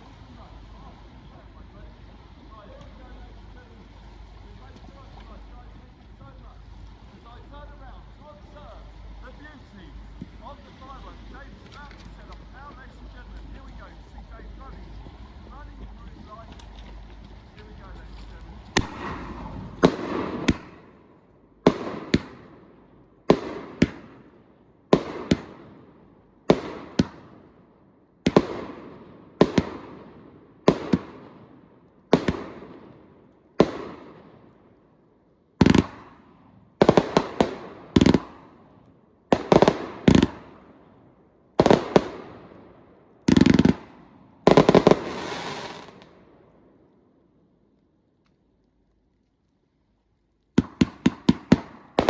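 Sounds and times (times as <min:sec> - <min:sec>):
fireworks bangs with rumble: 0:00.0 - 0:27.5, 0:28.2 - 0:34.6, 0:35.6 - 0:40.8, 0:41.6 - 0:46.2, 0:50.6 - 0:52.0.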